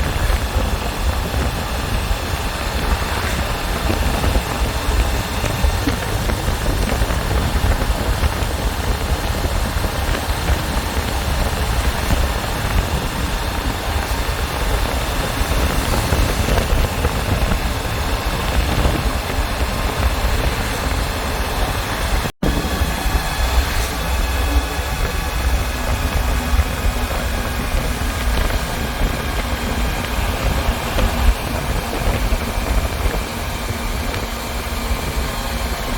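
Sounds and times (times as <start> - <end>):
motorcycle engine running: 0.0 - 35.9
wind rush on microphone: 0.0 - 35.9.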